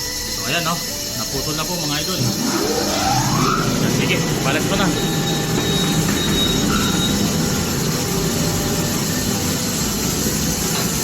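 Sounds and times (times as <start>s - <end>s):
thin high squeal: 0.0s - 9.3s
tire-shop machinery running: 0.0s - 11.0s.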